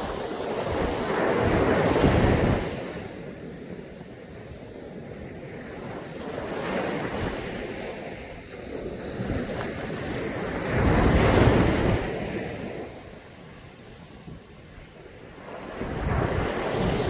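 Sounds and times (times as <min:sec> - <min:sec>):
waves washing onto beach: 0:00.0 - 0:17.0
wind buffeting microphone: 0:00.0 - 0:17.0.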